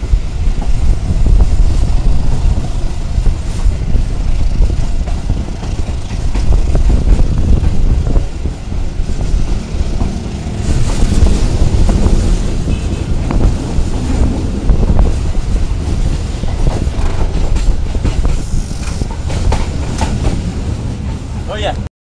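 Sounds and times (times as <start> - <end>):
wind buffeting microphone: 0.0 - 21.5
train rumbling: 0.0 - 21.9
train wheel clicks: 0.3 - 21.8.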